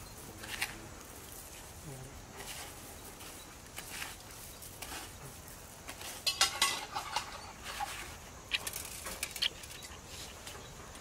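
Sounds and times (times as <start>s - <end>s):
crunchy rustles of crumb coating: 0.0s - 11.0s.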